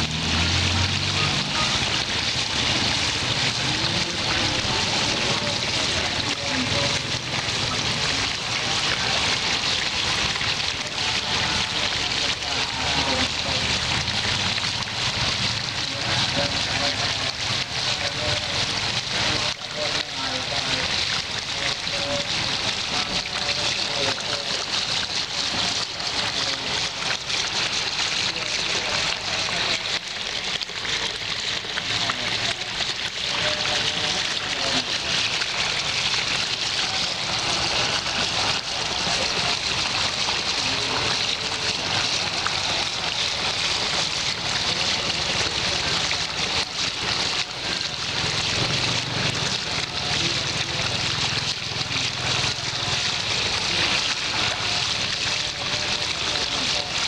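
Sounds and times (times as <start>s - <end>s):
water splashing onto rock: 0.0s - 57.0s.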